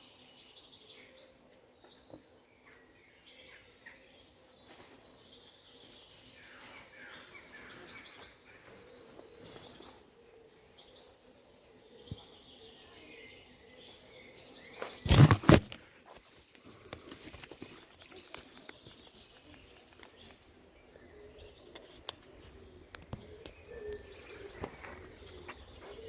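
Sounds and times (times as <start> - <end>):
faint bird calls: 1.0 - 26.0.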